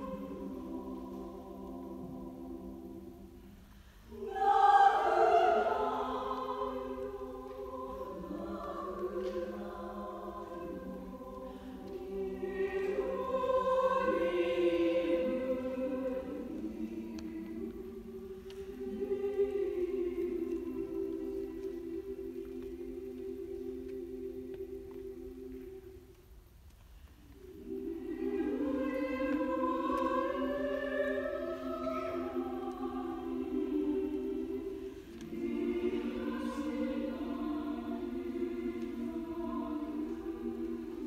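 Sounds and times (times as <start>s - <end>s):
women's choir singing: 0.0s - 26.2s, 27.2s - 41.0s.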